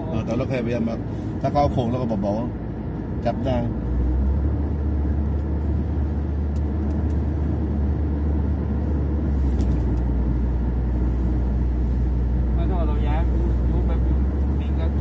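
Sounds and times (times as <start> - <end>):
car road noise inside cabin: 0.0 - 15.0.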